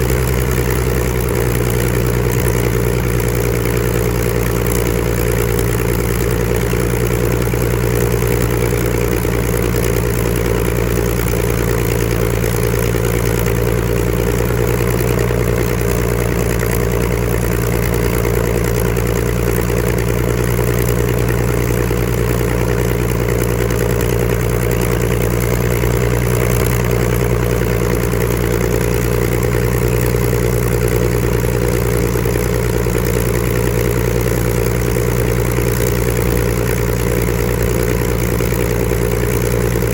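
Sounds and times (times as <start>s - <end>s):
aircraft engine running: 0.0s - 39.9s.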